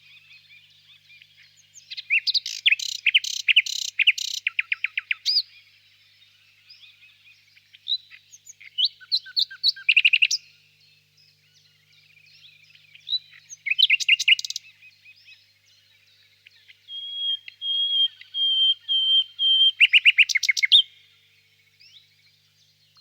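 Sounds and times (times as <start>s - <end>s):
nightingale singing: 0.0s - 23.0s.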